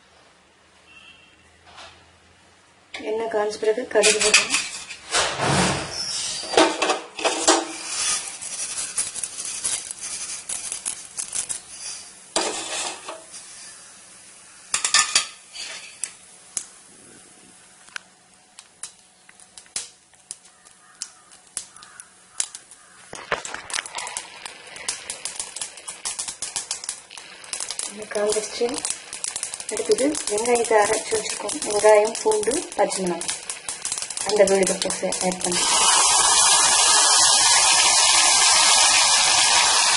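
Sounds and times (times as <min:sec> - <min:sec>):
seeds popping in hot oil: 0:03.9 - 0:05.0, 0:05.9 - 0:16.9, 0:17.6 - 0:39.9.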